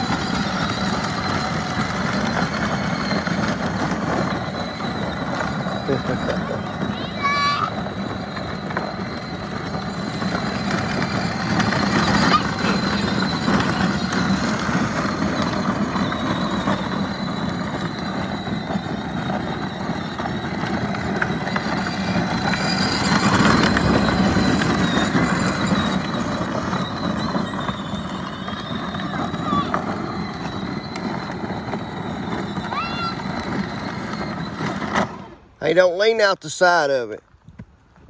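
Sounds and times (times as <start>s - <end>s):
utility vehicle engine whining: 0.0s - 38.0s.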